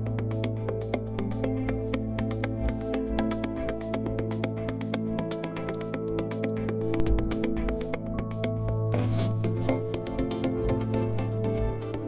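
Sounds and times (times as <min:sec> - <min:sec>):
music with quick beat: 0:00.0 - 0:12.0.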